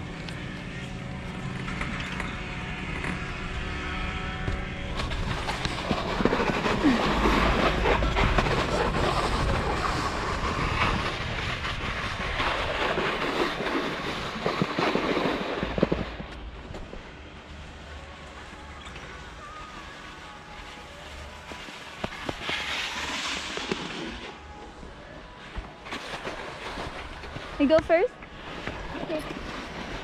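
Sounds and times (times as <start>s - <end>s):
chairlift mechanical hum: 0.0s - 30.0s
wind rumbling on microphone: 0.0s - 30.0s
skis scraping over snow: 0.2s - 30.0s.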